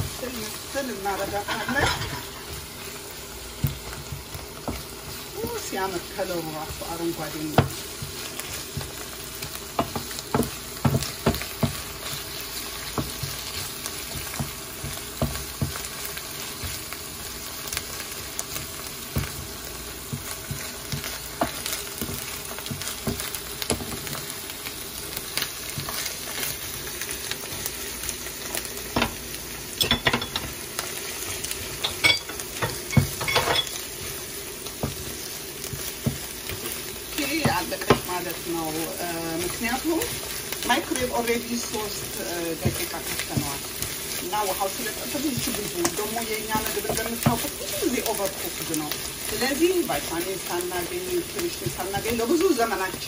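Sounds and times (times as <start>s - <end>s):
vegetables sizzling in a pan: 0.0s - 53.0s
wooden spoon scraping a pan: 0.0s - 53.0s.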